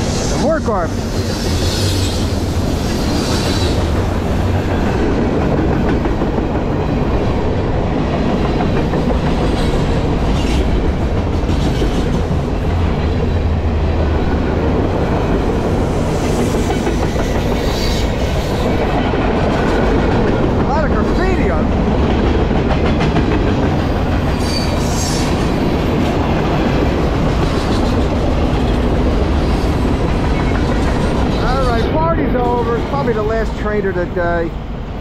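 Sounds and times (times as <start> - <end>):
wheels clacking over rail joints: 1.0 - 34.0.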